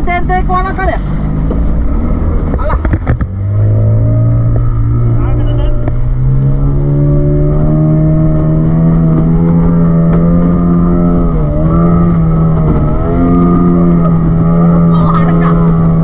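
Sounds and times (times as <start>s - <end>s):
outboard motor at high throttle: 0.0s - 16.0s.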